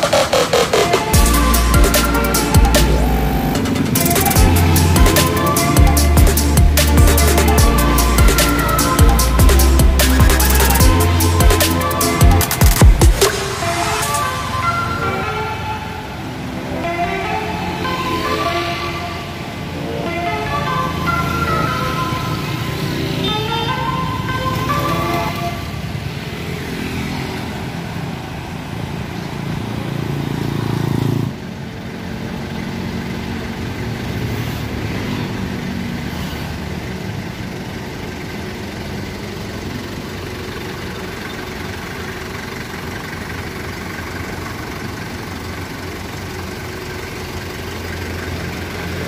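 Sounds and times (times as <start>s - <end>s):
passing road traffic: 0.0s - 49.0s
vehicle engines running: 0.0s - 49.0s.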